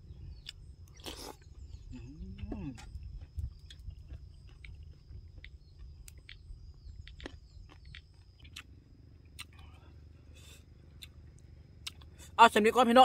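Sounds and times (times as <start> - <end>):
person chewing: 0.3 - 12.3.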